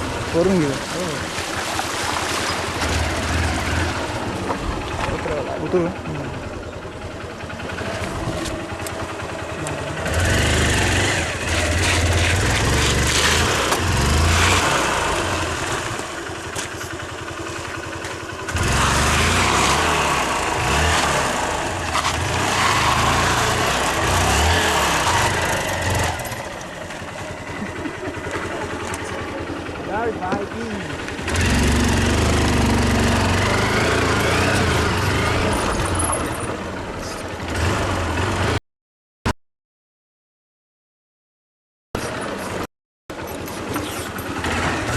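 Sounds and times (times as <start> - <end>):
motorcycle engine revving: 0.0 - 38.6, 42.0 - 44.9.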